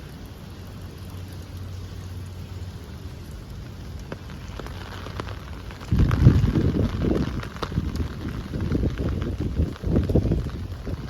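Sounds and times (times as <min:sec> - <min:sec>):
rain falling on ground: 0:00.0 - 0:11.0
sharp drips: 0:00.0 - 0:11.0.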